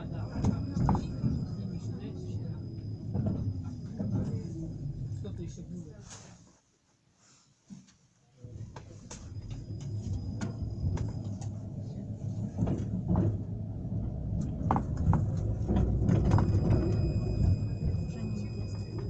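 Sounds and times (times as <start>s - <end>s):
tram cabin rumble: 0.0s - 6.3s, 8.4s - 19.0s.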